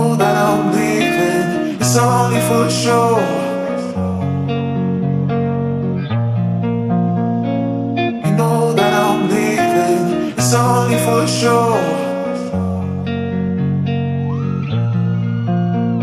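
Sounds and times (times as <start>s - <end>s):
guitar-led song: 0.0s - 16.0s.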